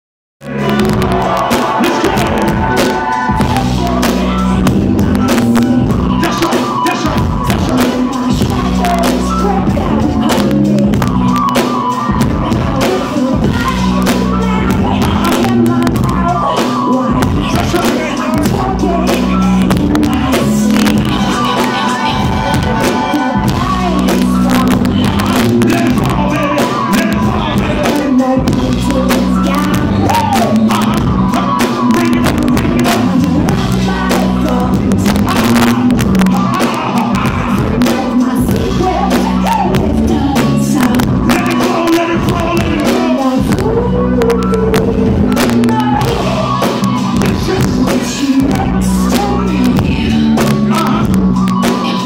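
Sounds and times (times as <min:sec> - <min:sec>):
deep bass line: 0:00.4 - 0:52.0
drums: 0:00.4 - 0:52.0
electronic backing music: 0:00.4 - 0:52.0
person singing: 0:00.4 - 0:52.0.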